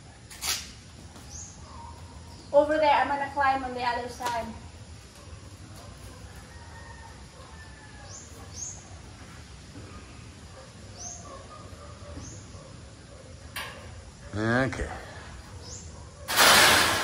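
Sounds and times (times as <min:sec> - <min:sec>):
outdoor background noise: 0:00.0 - 0:17.0
birds chirping: 0:00.9 - 0:16.3.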